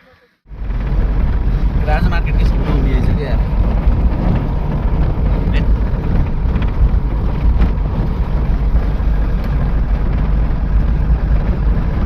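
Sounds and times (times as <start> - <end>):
truck engine and road rumble: 0.0 - 12.0
wind buffeting microphone: 0.5 - 12.0.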